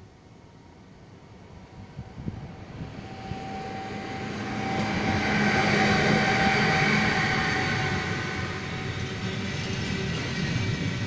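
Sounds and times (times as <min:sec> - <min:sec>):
electric locomotive whine: 0:00.0 - 0:11.0
train rumble: 0:01.0 - 0:11.0.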